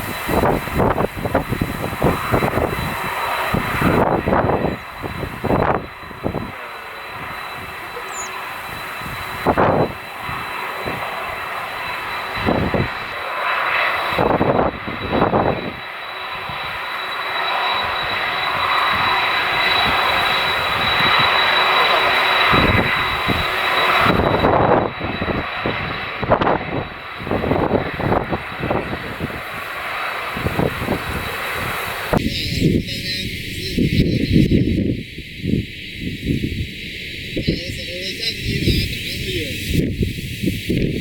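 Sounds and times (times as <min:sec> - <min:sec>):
wind buffeting microphone: 0:00.0 - 0:13.2, 0:14.1 - 0:16.9, 0:17.8 - 0:41.0
jet engines whining: 0:00.0 - 0:41.0.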